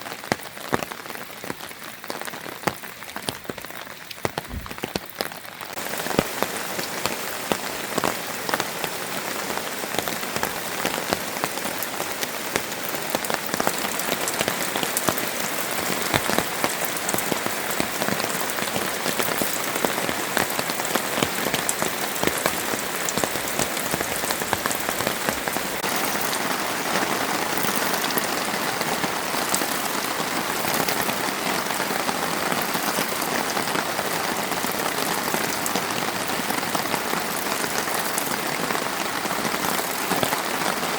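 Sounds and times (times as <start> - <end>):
rain drops ticking on surfaces: 0.0 - 40.9.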